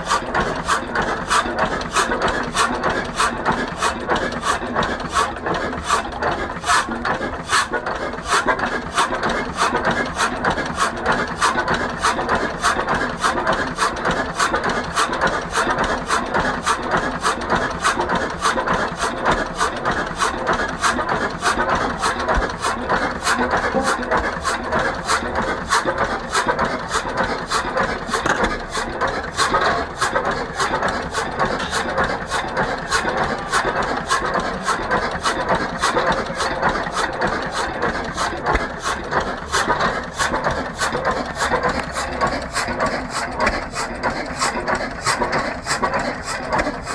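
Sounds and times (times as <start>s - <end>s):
marine engine knocking: 0.0s - 46.9s.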